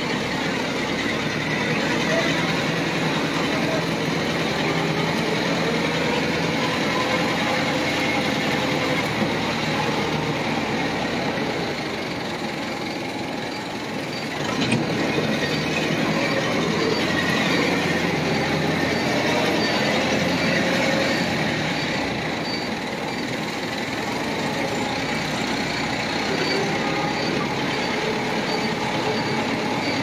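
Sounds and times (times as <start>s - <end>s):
auto-rickshaw engine running: 0.0s - 30.0s.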